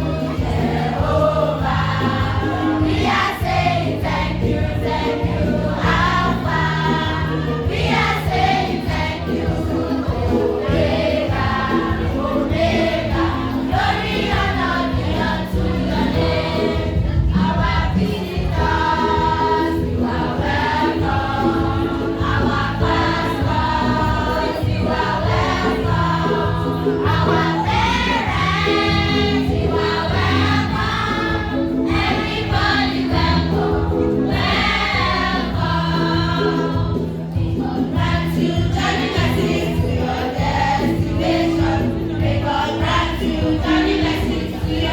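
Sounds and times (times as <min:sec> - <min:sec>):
choir singing gospel: 0:00.0 - 0:44.9
instrumental accompaniment: 0:00.0 - 0:44.9.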